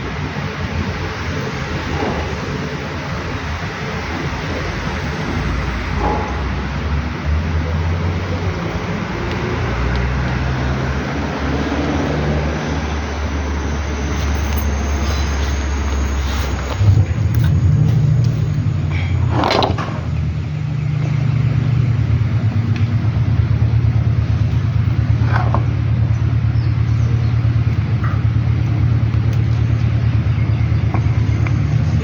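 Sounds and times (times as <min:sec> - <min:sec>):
engine with pulsing knock: 0:00.0 - 0:32.0.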